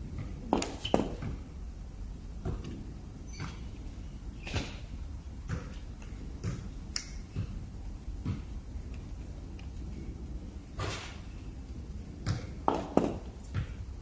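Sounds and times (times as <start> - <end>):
low factory hum: 0.0 - 14.0.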